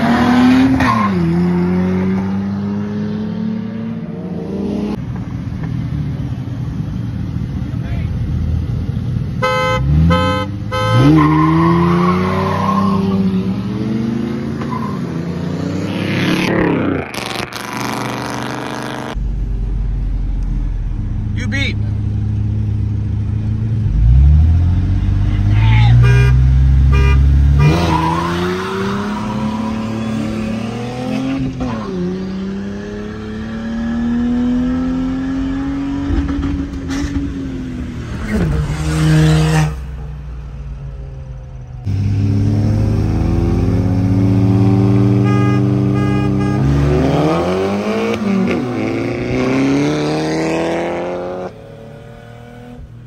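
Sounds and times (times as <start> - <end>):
car engine at full throttle: 0.0 - 53.0.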